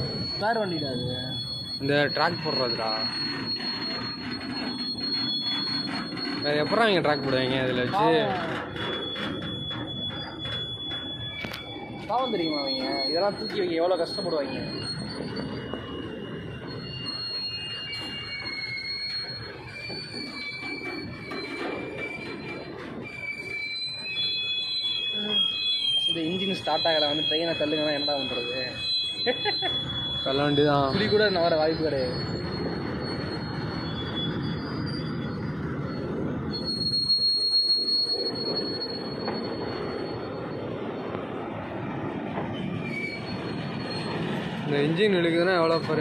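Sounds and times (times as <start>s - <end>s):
freight wagons rumbling: 0.0s - 46.0s
steel wheels squealing on rails: 0.0s - 46.0s.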